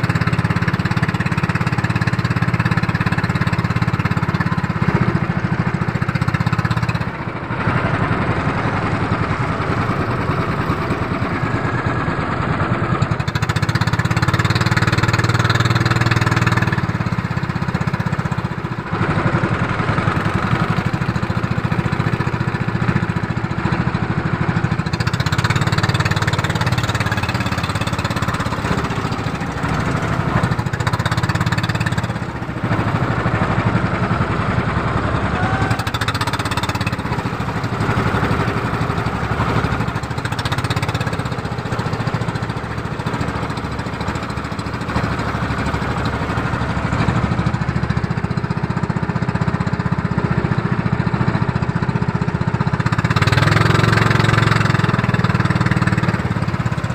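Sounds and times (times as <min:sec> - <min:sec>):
boat engine chugging: 0:00.0 - 0:56.9
wind: 0:00.0 - 0:56.9.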